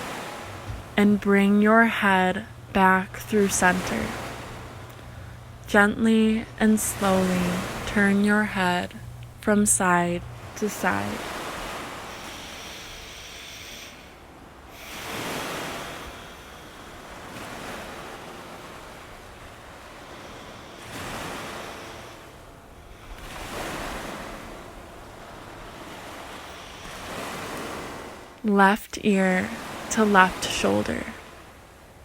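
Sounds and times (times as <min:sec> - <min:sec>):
ocean waves: 0:00.0 - 0:32.0.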